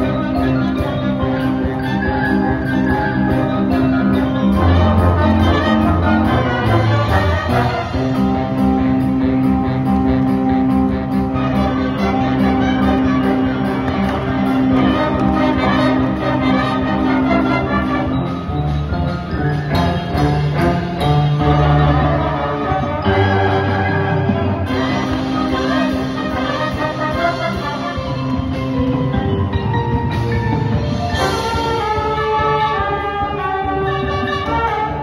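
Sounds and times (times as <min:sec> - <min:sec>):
brass playing: 0:00.0 - 0:29.0, 0:30.9 - 0:35.0
mallet percussion: 0:00.0 - 0:35.0.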